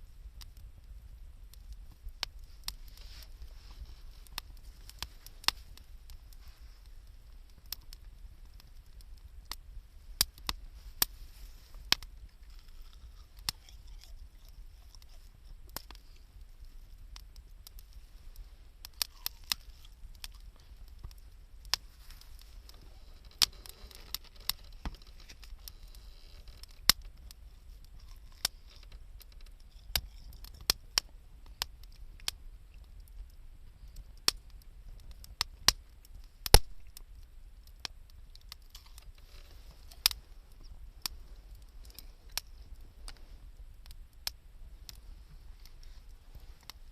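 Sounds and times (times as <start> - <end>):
campfire crackling: 0.0 - 46.9
faint low rumble: 0.0 - 46.9.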